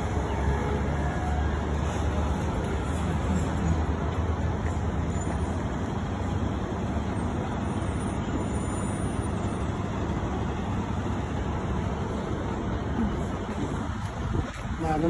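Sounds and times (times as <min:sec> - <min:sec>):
motor vehicles rumbling: 0:00.0 - 0:15.0.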